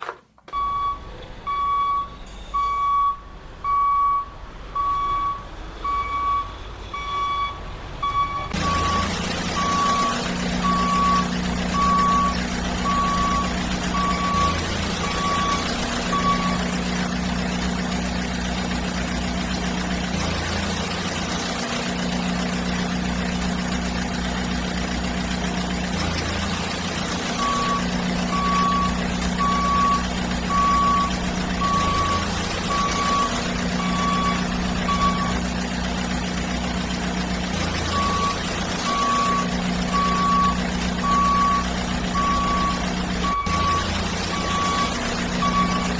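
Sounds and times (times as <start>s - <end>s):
reversing alarm beeping: 0.5s - 24.1s, 25.1s - 35.7s, 37.6s - 45.9s
low engine hum: 0.6s - 45.9s.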